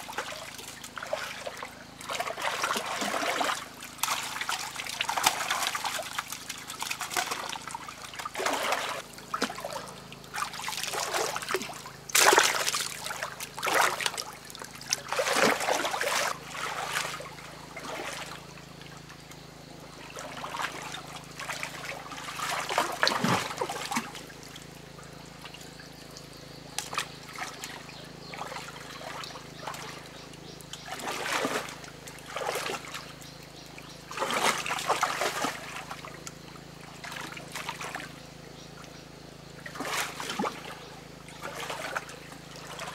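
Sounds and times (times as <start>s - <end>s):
water splashing from wading: 0.0s - 19.2s, 19.8s - 25.9s, 26.8s - 42.9s
trickle of running water: 0.0s - 42.9s.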